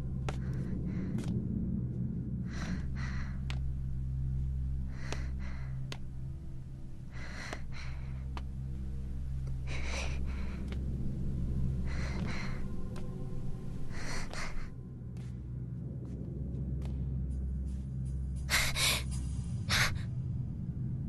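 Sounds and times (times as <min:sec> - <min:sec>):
low steady hum: 0:00.0 - 0:21.0
person breathing heavily: 0:00.1 - 0:15.5, 0:18.4 - 0:20.2.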